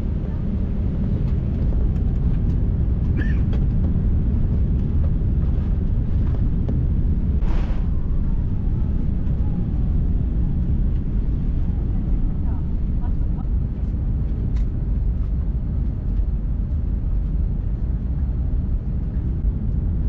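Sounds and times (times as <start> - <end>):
aircraft cabin engine rumble: 0.0 - 20.0.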